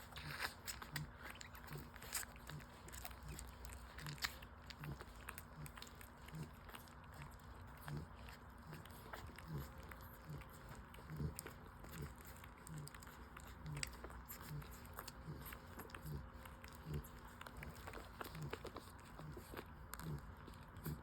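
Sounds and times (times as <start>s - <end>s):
puppies grunting softly: 0.0s - 21.0s
puppies suckling and smacking: 0.0s - 21.0s.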